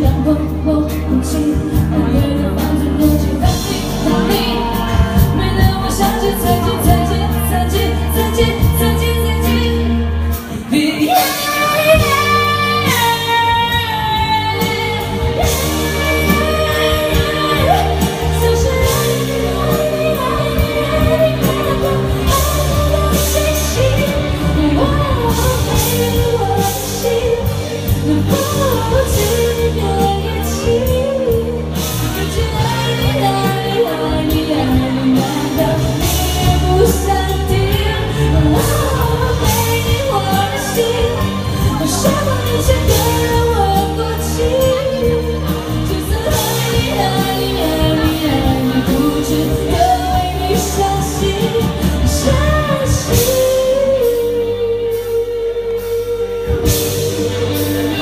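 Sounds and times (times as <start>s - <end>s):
live pop music with singer: 0.0s - 58.0s.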